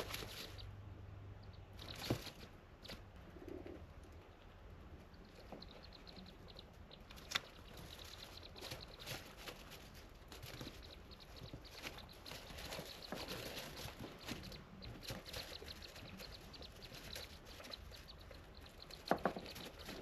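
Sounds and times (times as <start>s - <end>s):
degu chirping: 0.0s - 20.0s.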